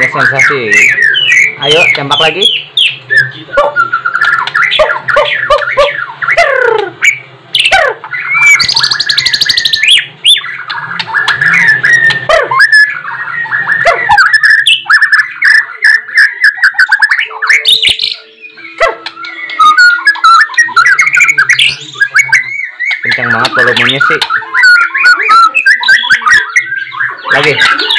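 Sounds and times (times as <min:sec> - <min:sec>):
bird singing: 0:00.0 - 0:27.9.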